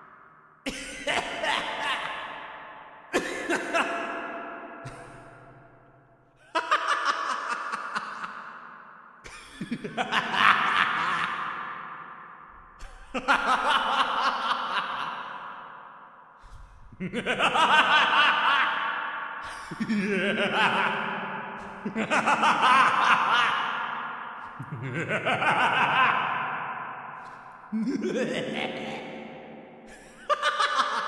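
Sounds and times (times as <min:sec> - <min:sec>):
person laughing with echo: 0:00.0 - 0:05.7, 0:06.4 - 0:31.0.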